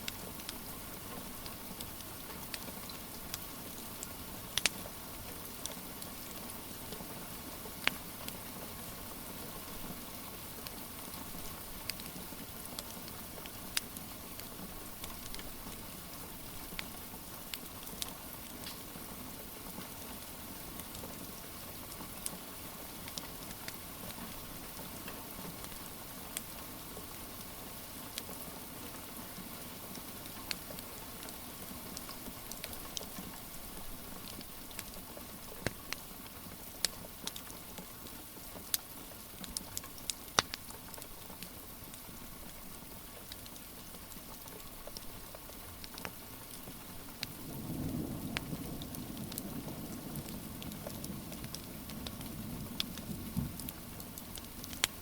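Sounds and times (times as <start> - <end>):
wood fire crackling: 0.0 - 28.8, 30.0 - 55.0
rain hiss: 0.0 - 55.0.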